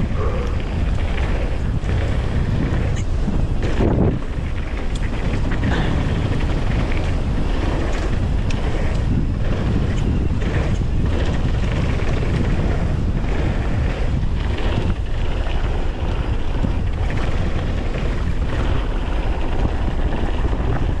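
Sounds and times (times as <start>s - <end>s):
low rumble of bike: 0.0s - 21.0s
rattling clicks from bike: 0.0s - 21.0s
wind buffeting microphone: 0.0s - 21.0s.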